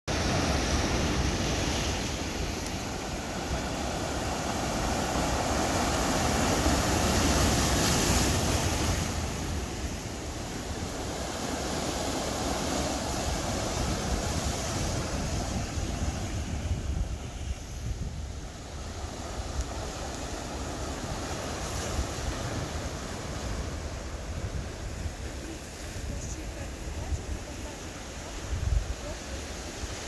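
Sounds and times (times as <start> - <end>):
sea surf over boulders: 0.1 - 30.0
wind buffeting microphone: 0.1 - 30.0.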